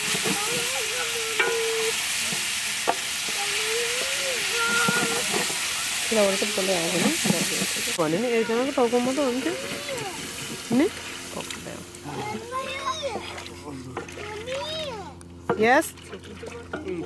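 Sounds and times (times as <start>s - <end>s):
boiling and steam hissing: 0.0s - 17.0s.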